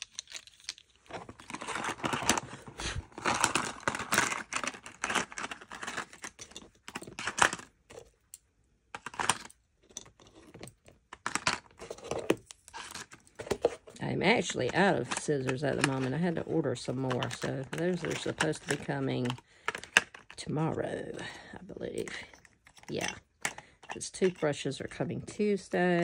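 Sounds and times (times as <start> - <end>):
rustling of items: 0.0 - 26.0.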